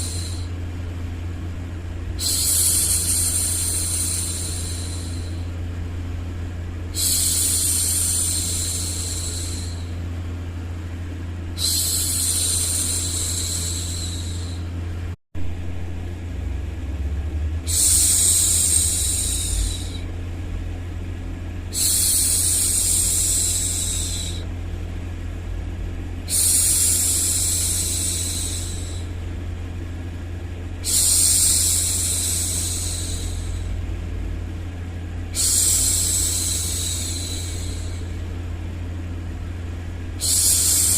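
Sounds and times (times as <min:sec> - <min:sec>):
low background hum: 0:00.0 - 0:40.9.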